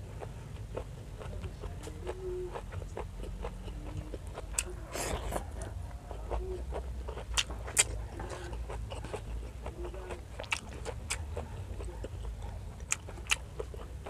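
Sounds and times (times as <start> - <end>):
person chewing seaweed: 0.0 - 14.0.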